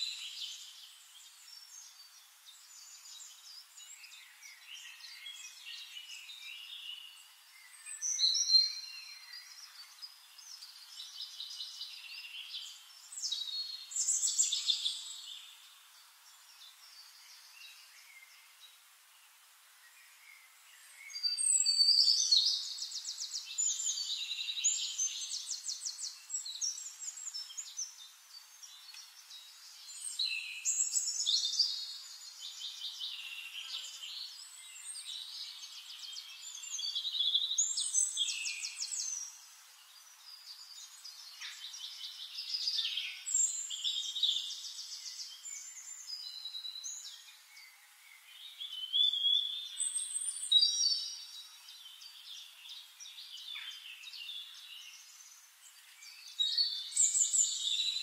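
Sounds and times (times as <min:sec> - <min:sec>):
songbird trilling and chirping: 0:00.0 - 0:18.5, 0:20.2 - 0:58.0.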